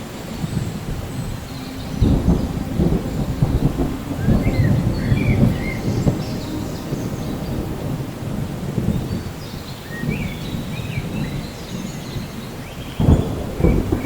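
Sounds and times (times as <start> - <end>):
low rumble of thunder: 0.0 - 14.0
steady rain: 0.0 - 14.0.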